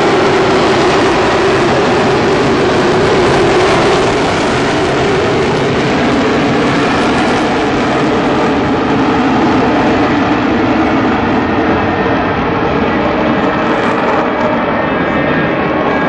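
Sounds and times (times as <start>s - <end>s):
loud jet engine roar: 0.0s - 16.0s.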